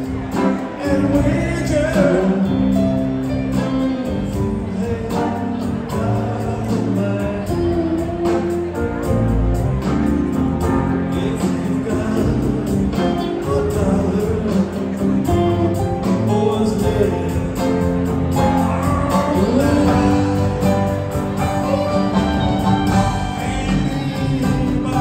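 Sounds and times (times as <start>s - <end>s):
person singing: 0.0s - 9.2s, 10.6s - 25.0s
bass: 0.0s - 25.0s
electric guitars: 0.0s - 25.0s
keyboard: 0.0s - 25.0s.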